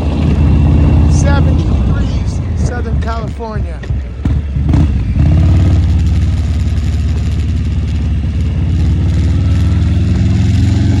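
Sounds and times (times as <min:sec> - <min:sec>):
motorcycle engine idling: 0:00.0 - 0:10.2.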